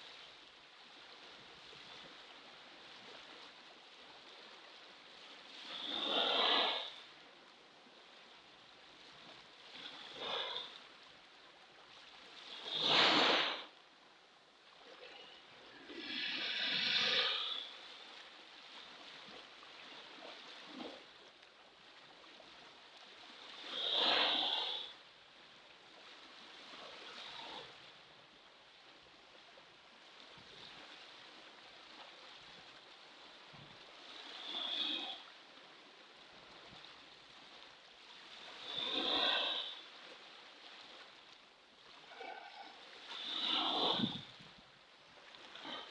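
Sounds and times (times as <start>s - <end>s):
steady wash of water: 0.0s - 45.9s.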